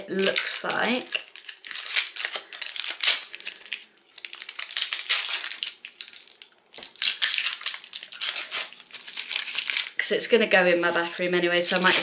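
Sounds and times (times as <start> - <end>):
paper wrapping crinkling: 0.0 - 10.1, 10.8 - 12.0.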